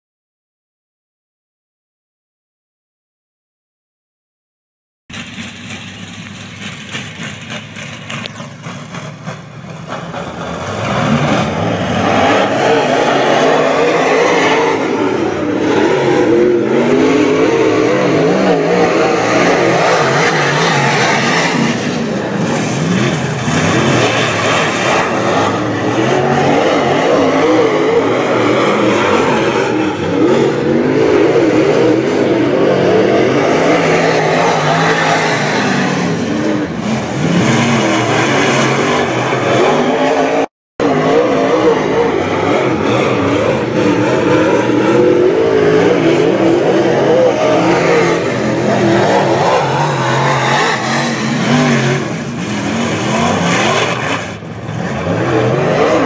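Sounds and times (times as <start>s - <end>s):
race car engines revving: 5.1s - 56.0s.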